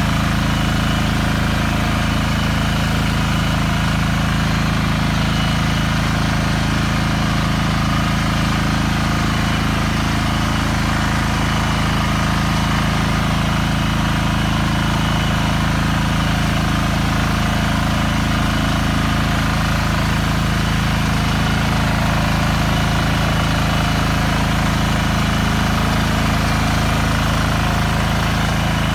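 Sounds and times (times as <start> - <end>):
walking tractor engine running: 0.0 - 28.9.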